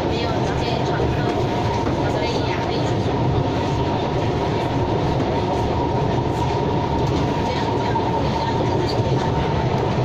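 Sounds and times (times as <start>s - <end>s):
metro train rumble: 0.0s - 10.0s
train high whine: 0.0s - 10.0s.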